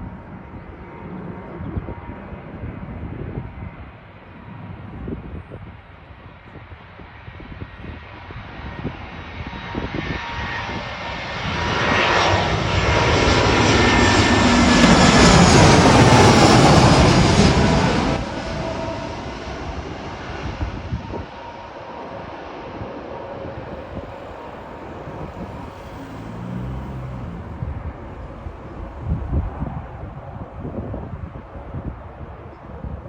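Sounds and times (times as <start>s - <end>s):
airliner passing low overhead: 0.0s - 33.0s.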